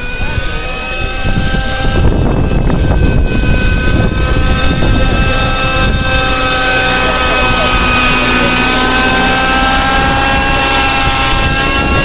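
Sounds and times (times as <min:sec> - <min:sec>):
model engine high-pitched whine: 0:00.0 - 0:12.0
rotor whooshing rumble: 0:00.0 - 0:12.0.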